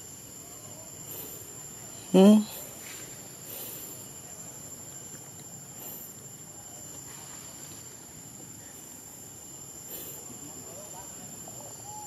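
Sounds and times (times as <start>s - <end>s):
constant high-pitched tone: 0.0s - 12.0s
steady hiss: 0.0s - 12.0s.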